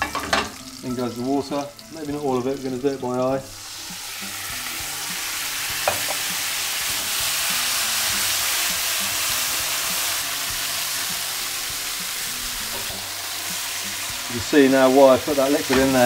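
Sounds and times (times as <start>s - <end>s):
water sizzling in hot oil: 0.0s - 16.0s.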